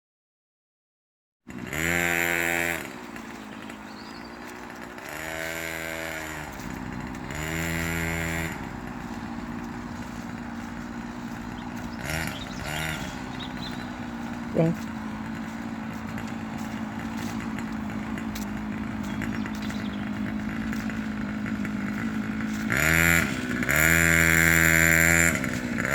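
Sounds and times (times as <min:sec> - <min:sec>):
motocross bike engine revving: 0:01.5 - 0:25.9.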